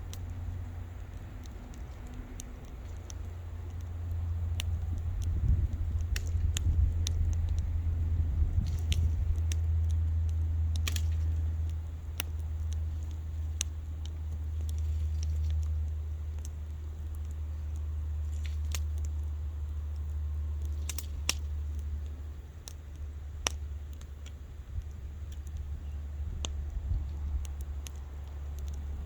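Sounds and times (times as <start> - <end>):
low rumble: 0.0 - 29.0
wood fire crackling and popping: 0.0 - 29.0.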